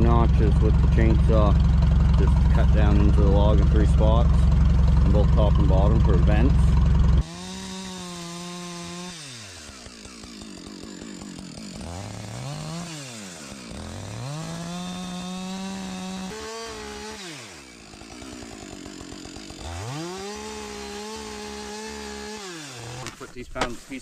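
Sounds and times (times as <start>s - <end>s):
chainsaw cutting log: 0.0s - 24.0s.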